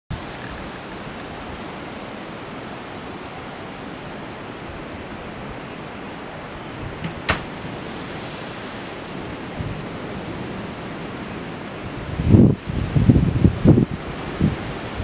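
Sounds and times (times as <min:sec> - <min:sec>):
storm wind rushing: 0:00.1 - 0:15.0
wind buffeting microphone: 0:00.1 - 0:15.0.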